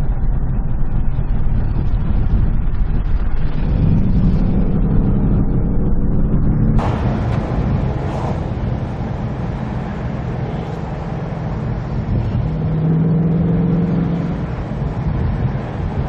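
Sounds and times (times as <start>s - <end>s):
car engine running: 0.0s - 16.0s
road noise: 0.0s - 16.0s.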